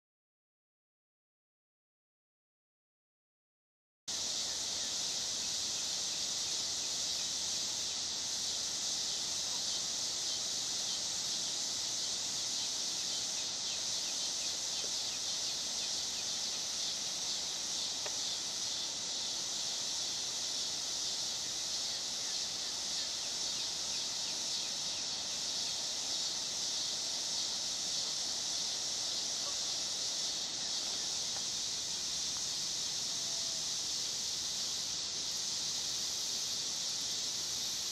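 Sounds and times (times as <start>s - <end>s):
insects trilling: 4.1s - 37.9s.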